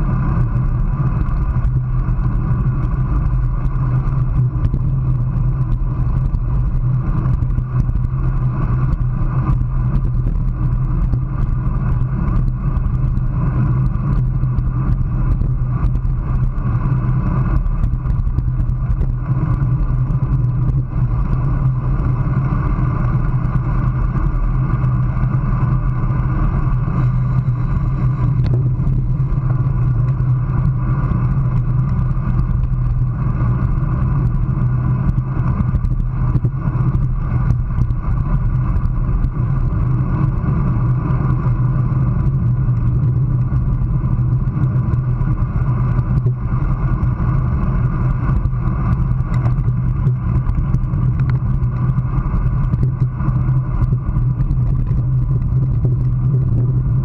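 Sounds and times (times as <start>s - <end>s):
bike tyres rolling on asphalt: 0.0s - 57.0s
wind rushing over camera: 0.0s - 57.0s.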